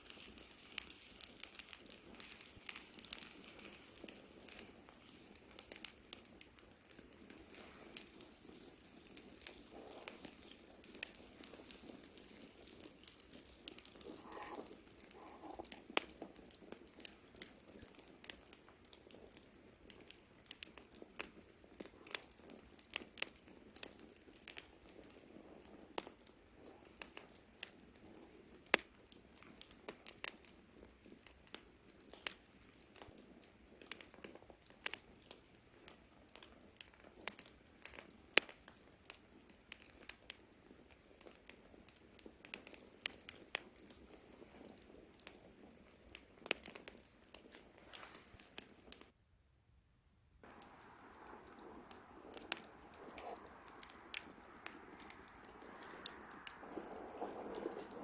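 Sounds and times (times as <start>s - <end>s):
campfire crackling and popping: 0.0s - 49.1s, 50.4s - 58.0s.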